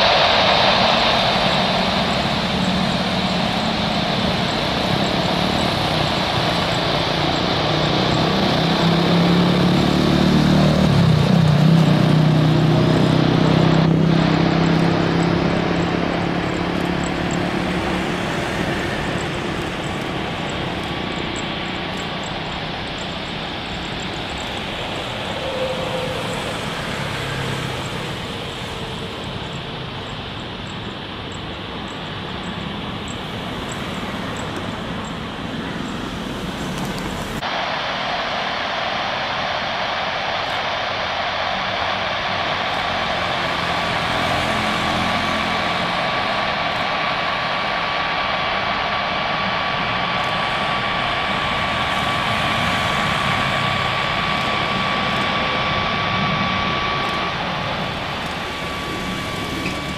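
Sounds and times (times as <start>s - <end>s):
loud rushing jet noise: 0.0s - 59.9s.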